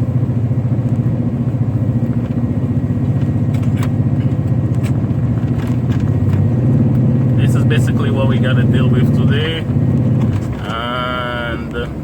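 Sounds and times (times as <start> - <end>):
car engine and tyres droning: 0.0 - 12.0.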